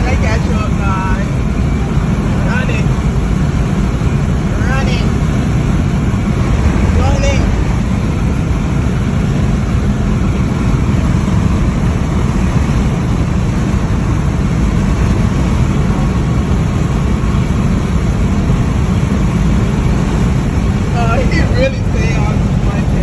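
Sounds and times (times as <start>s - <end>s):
car interior road and engine rumble: 0.0s - 23.0s.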